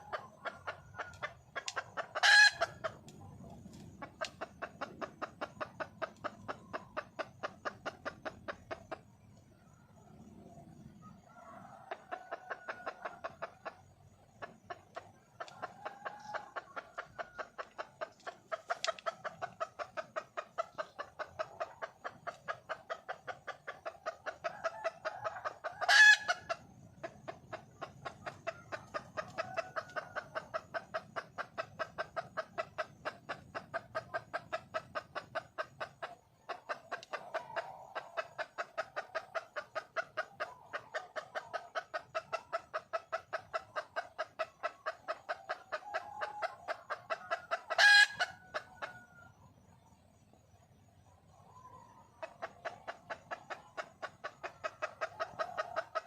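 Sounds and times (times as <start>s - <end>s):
hen clucking: 0.0s - 56.0s.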